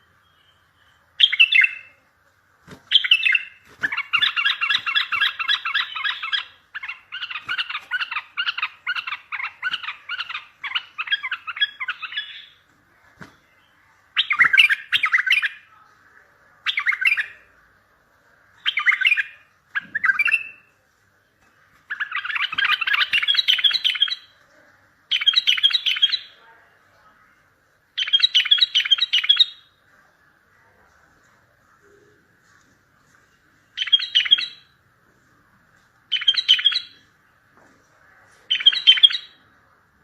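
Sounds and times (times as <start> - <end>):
faint background noise: 0.0 - 40.0.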